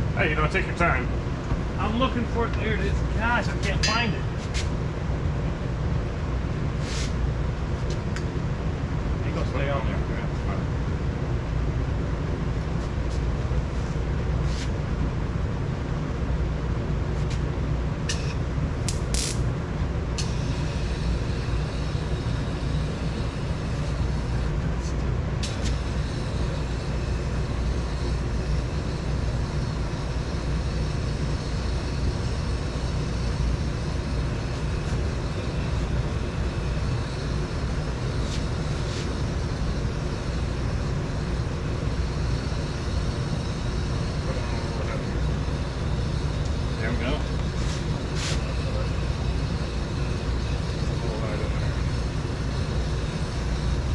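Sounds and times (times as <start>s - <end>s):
low machine drone: 0.0s - 53.9s.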